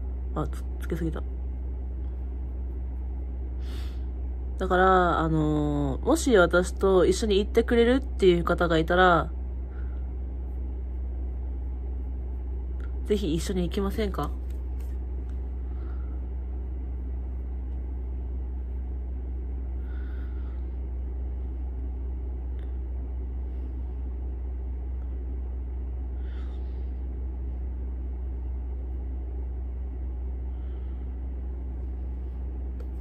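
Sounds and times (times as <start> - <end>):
low room hum: 0.0 - 33.0.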